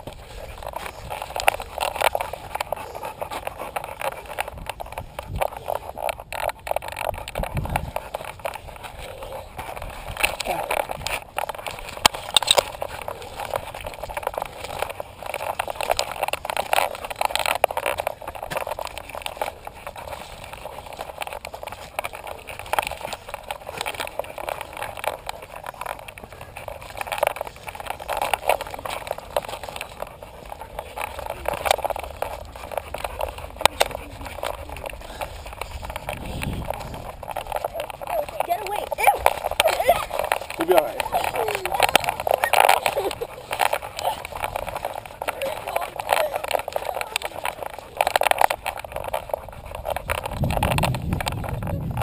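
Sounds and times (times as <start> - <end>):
paws on loose dirt: 0.0 - 52.0.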